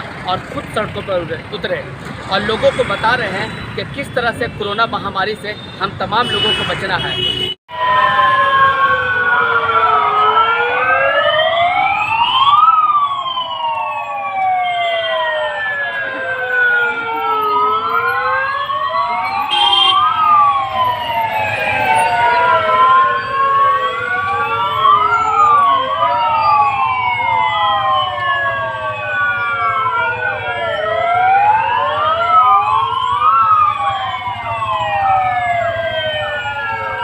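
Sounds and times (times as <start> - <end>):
police sirens wailing: 0.0 - 37.0.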